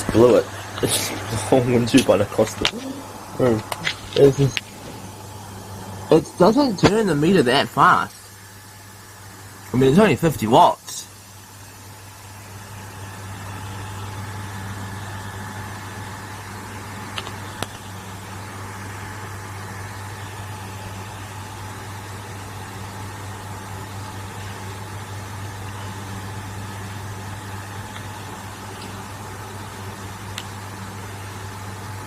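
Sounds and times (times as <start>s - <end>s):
electric fan humming: 0.0s - 32.0s.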